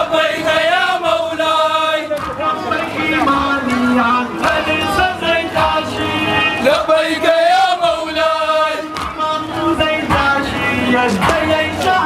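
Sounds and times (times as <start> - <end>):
men singing a chant: 0.0 - 12.0.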